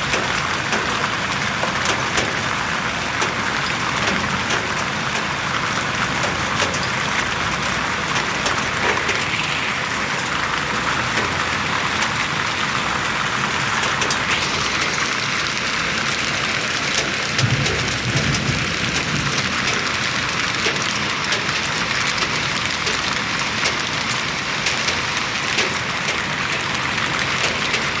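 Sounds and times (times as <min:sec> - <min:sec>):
rain and hail striking surfaces: 0:00.0 - 0:28.0.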